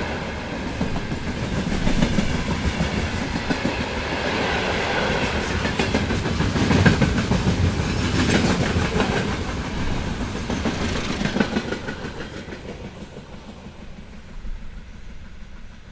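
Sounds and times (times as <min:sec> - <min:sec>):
train wheels clacking on rails: 0:00.0 - 0:15.9.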